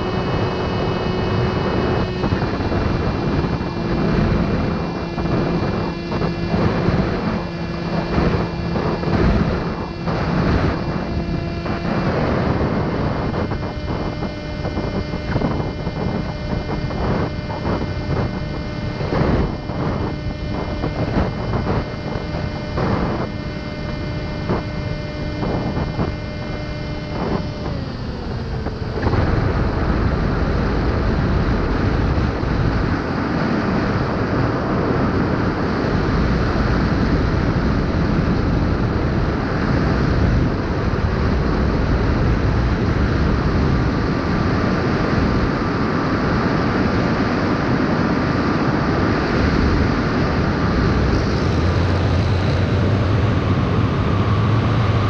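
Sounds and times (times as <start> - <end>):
drone motors whining: 0.0 - 55.0
wind noise on microphone: 0.0 - 55.0.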